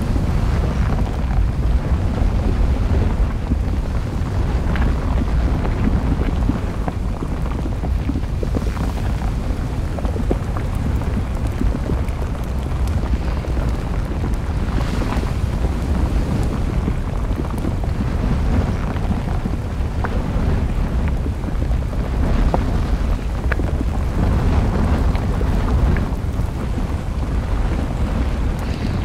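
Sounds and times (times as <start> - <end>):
deep volcanic rumble: 0.0 - 29.0
small crackles: 0.0 - 29.0.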